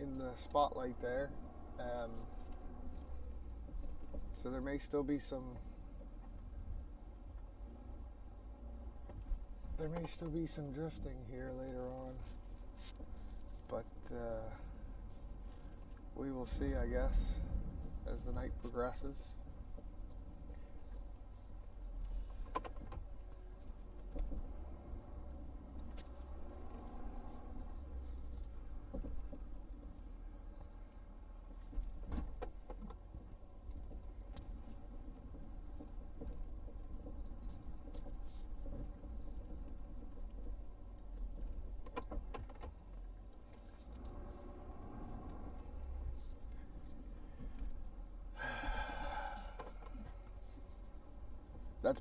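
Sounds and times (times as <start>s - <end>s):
light clicks and jingles: 0.0s - 8.4s, 9.1s - 48.3s.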